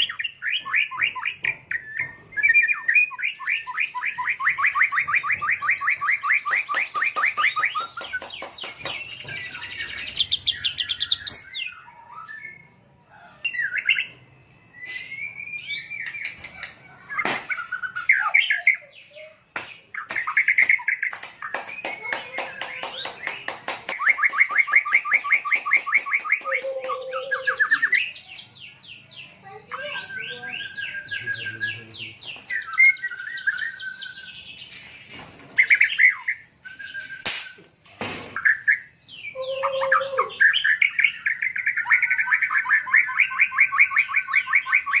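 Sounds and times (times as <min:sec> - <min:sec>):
bird singing fast trills: 0:00.0 - 0:12.8, 0:17.5 - 0:35.0, 0:38.4 - 0:45.0.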